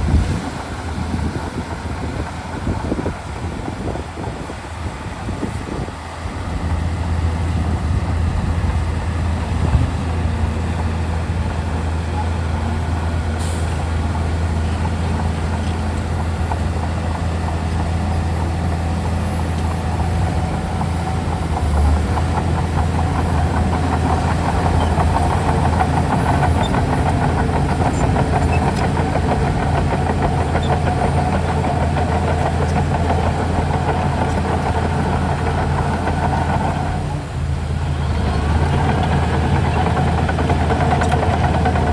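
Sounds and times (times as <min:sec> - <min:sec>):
bulldozer diesel engine droning: 0:00.0 - 0:41.9.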